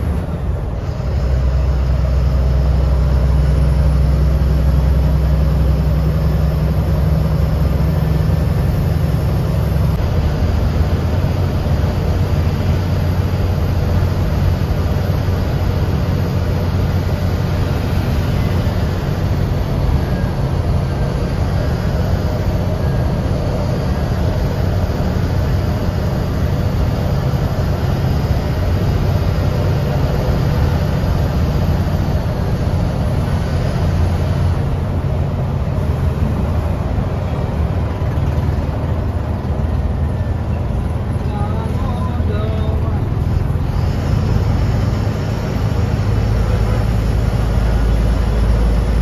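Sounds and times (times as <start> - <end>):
bus engine drone: 0.0 - 49.0
road noise: 0.0 - 49.0.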